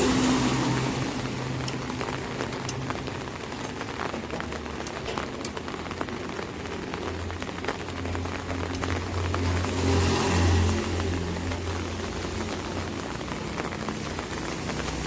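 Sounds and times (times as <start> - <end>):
low vehicle hum: 0.0 - 15.0
rain on an umbrella: 0.0 - 15.0.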